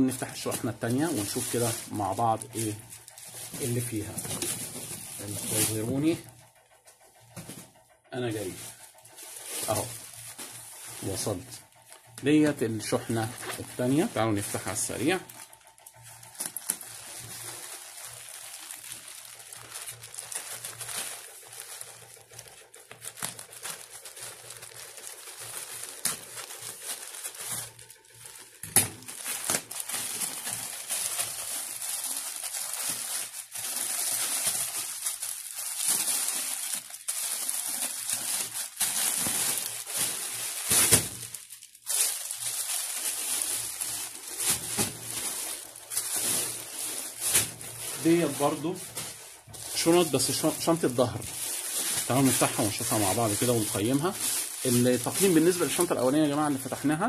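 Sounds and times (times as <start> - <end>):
plastic bag tearing: 0.0 - 6.3, 8.3 - 57.0
plastic packaging crinkling: 0.0 - 57.0.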